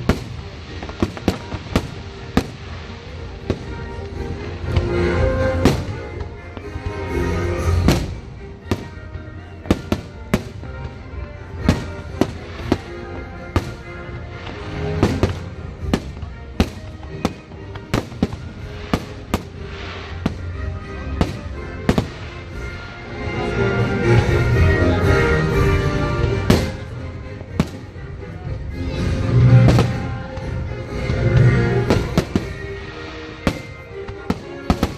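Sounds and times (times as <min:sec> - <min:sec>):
fireworks bangs: 0:00.0 - 0:22.9, 0:24.2 - 0:28.0, 0:29.1 - 0:34.9
music playing: 0:00.0 - 0:34.9.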